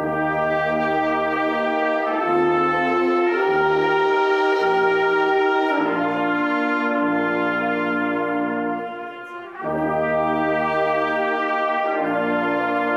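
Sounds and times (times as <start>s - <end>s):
brass band playing a hymn: 0.0s - 12.9s.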